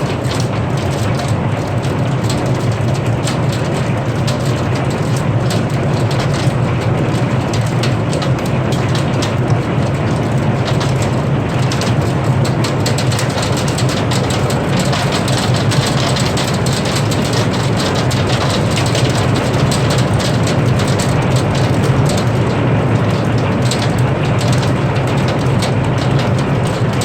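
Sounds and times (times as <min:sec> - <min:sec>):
constant rushing noise: 0:00.0 - 0:27.0
hail clattering: 0:00.0 - 0:27.0.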